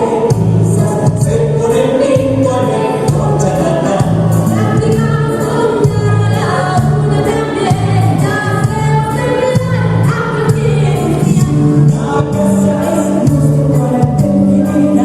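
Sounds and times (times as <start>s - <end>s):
choir singing with accompaniment: 0.0s - 15.0s.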